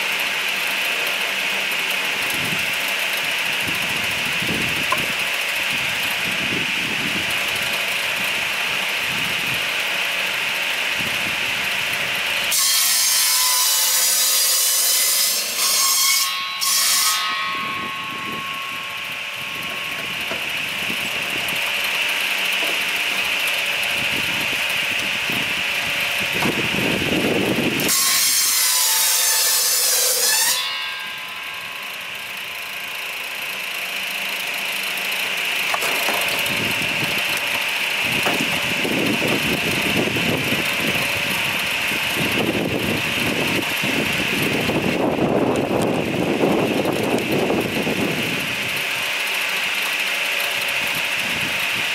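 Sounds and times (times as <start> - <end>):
firewood machine running: 0.0 - 51.9
saw rasping through log: 0.0 - 51.9.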